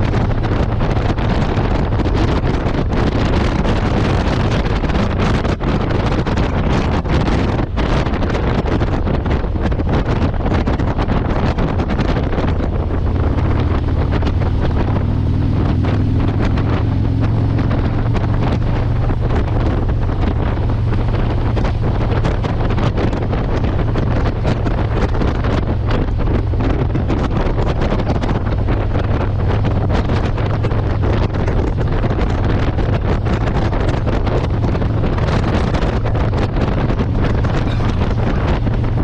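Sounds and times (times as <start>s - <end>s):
motorcycle engine running: 0.0s - 39.0s
wind buffeting microphone: 0.0s - 39.0s.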